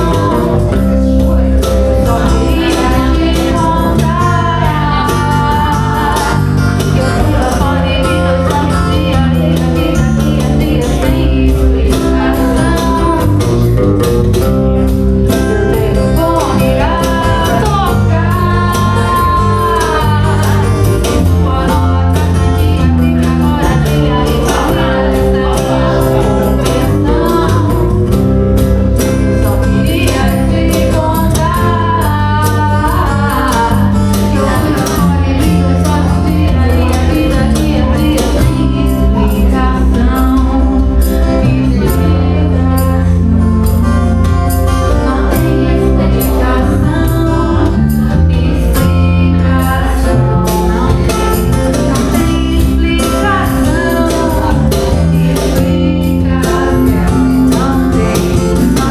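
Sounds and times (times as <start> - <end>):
band playing: 0.0 - 58.9
person singing: 0.0 - 58.9.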